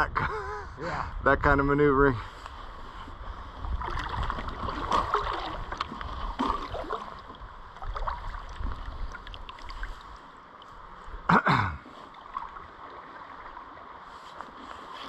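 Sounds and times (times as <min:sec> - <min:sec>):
paddle splashes: 0:02.4 - 0:15.0
water gurgling around boat: 0:02.7 - 0:15.0.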